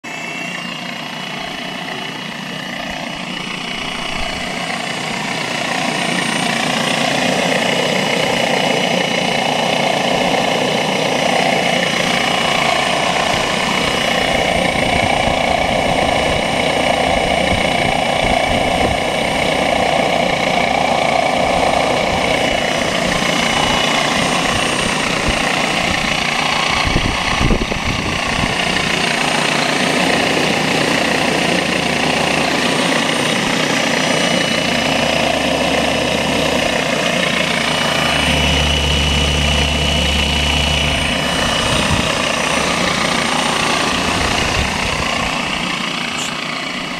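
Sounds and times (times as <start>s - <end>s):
rc helicopter motor whine: 0.0s - 46.9s
rotor whirring: 0.1s - 46.9s.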